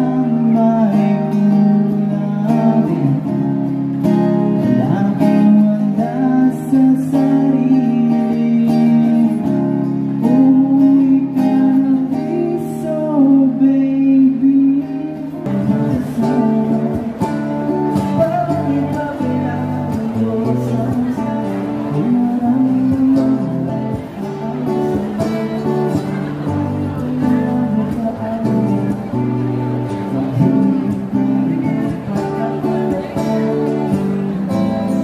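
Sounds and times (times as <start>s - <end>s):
amplified guitar: 0.0s - 35.0s
different singer: 0.0s - 35.0s
man singing into a microphone: 0.0s - 35.0s.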